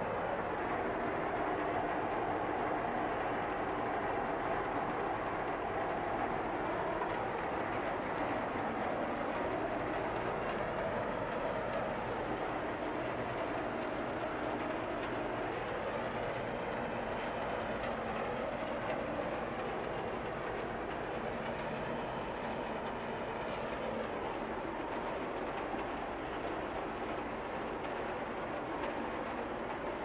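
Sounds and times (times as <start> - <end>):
heavy machinery rumbling: 0.0 - 30.0.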